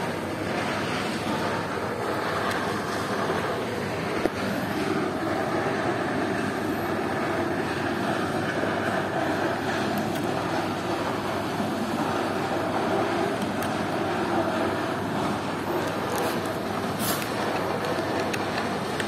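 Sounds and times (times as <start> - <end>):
steady rumbling background noise: 0.0 - 19.0.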